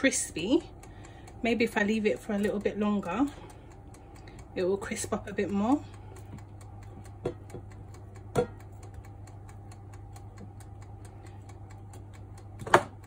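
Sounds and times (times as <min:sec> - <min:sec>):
fast faint ticking: 0:00.0 - 0:12.6
low steady hum: 0:00.0 - 0:13.0
tongs clicking on metal basket: 0:00.0 - 0:13.0.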